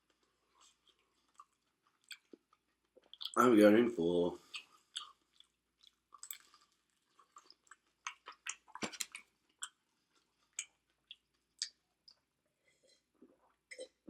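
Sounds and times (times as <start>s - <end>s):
person chewing food: 0.0s - 3.4s, 4.4s - 14.0s.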